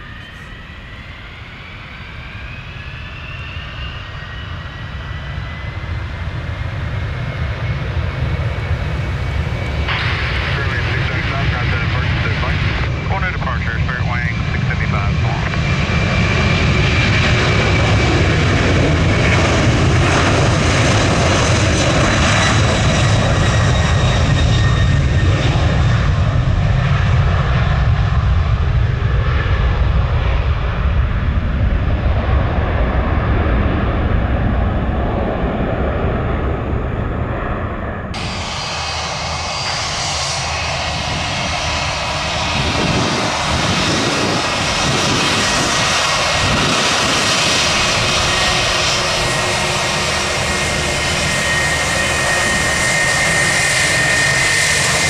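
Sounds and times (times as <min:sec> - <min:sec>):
jet engines roaring: 0:00.0 - 0:55.0
thinner aircraft engine noise: 0:00.0 - 0:55.0.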